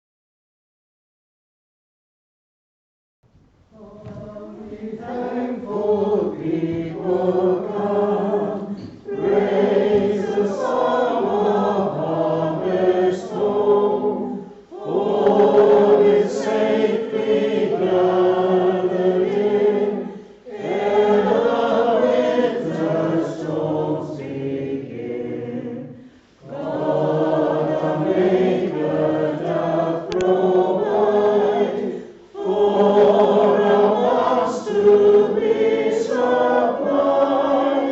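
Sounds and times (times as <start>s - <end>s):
choir singing: 3.7s - 37.9s.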